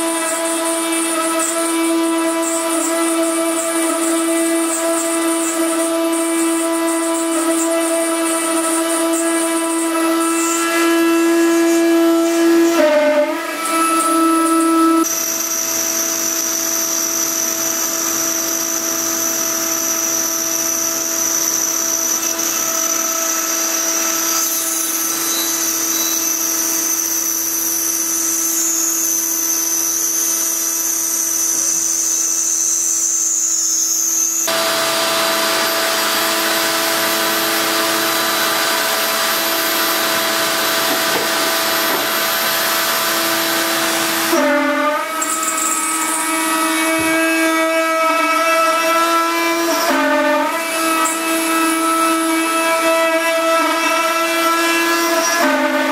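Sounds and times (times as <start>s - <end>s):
cnc spindle whine: 0.0s - 55.9s
end mill cutting aluminium: 0.0s - 55.9s.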